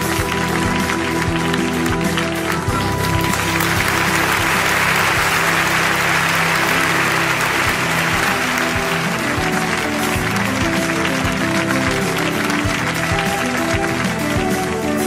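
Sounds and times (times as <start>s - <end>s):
audience applause: 0.0s - 15.0s
stage music with held notes: 0.0s - 15.0s.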